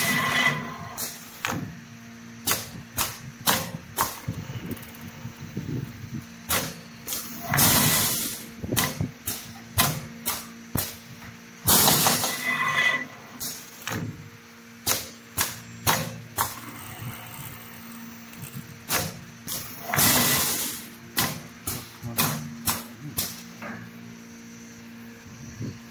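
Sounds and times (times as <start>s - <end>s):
machine motor hum: 0.0s - 25.9s.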